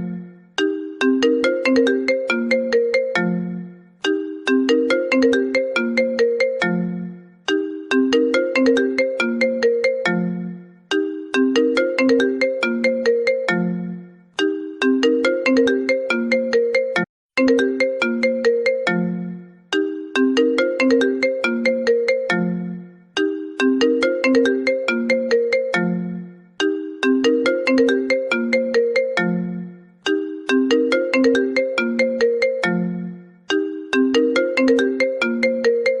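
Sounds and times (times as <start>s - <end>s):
phone ringtone melody: 0.0s - 36.0s.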